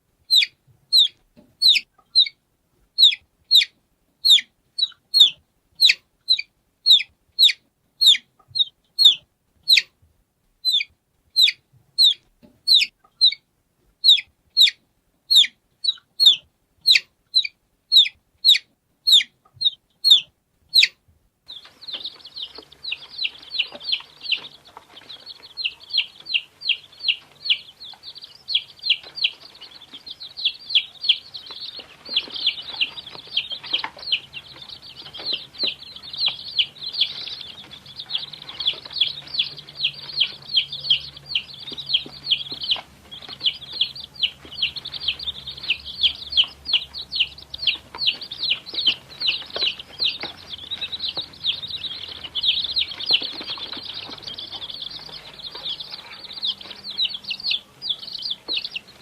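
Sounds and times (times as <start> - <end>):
faint low hum: 0.0 - 59.0
chick peeping: 0.2 - 10.0, 10.6 - 59.0
many chicks peeping: 0.2 - 10.0, 10.6 - 13.4, 14.0 - 59.0.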